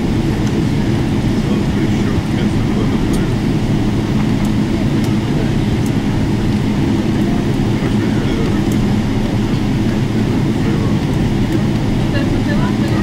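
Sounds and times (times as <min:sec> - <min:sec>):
aircraft cabin engine drone: 0:00.0 - 0:13.0.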